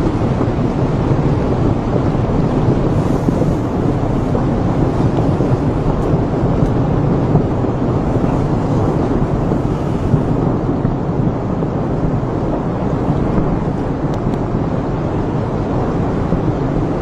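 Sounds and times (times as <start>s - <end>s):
volcano deep rumble: 0.0s - 17.0s.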